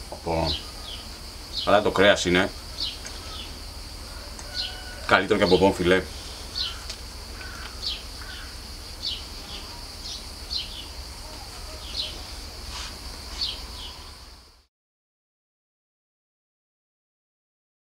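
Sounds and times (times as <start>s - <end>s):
high insect buzz: 0.0s - 14.7s
small bird chirping: 0.2s - 14.6s.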